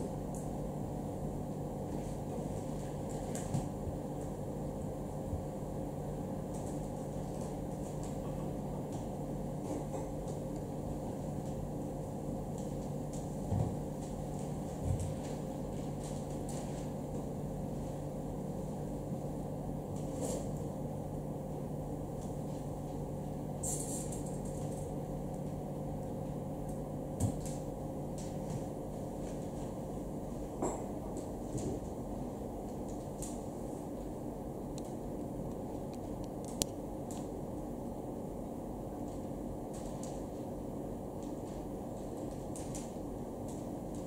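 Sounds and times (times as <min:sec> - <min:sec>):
low room hum: 0:00.0 - 0:44.0.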